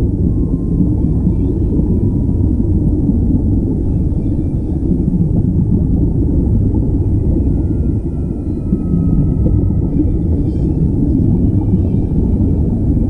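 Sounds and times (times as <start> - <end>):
air bubbling underwater: 0.0 - 13.0
low underwater rumble: 0.0 - 13.0.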